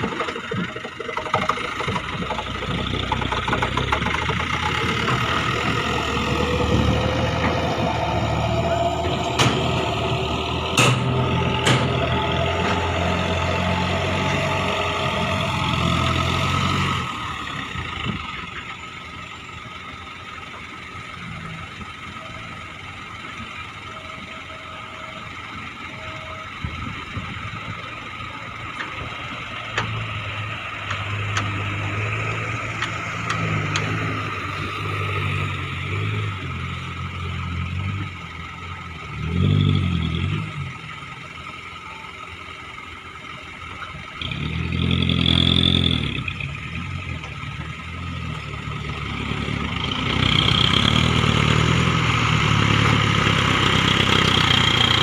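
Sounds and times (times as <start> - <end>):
diesel truck engine revving: 0.0 - 55.0.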